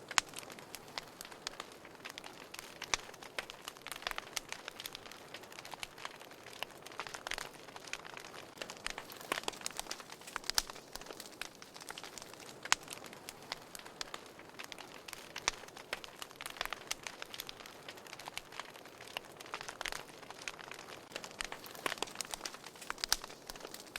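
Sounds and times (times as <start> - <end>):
fire crackling and popping: 0.0 - 23.9
soft steady hiss: 0.0 - 23.9.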